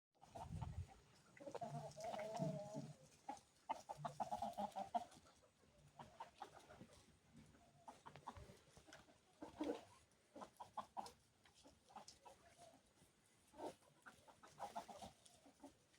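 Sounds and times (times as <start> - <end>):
chickens clucking: 0.2 - 15.9.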